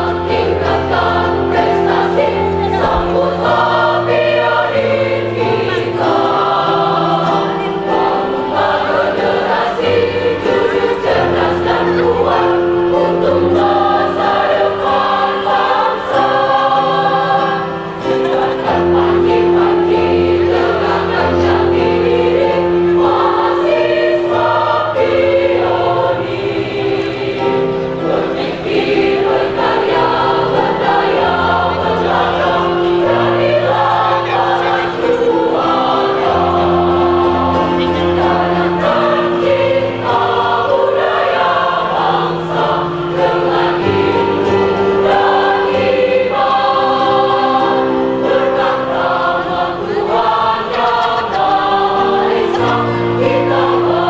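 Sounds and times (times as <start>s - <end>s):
women's choir singing a march: 0.0s - 54.0s.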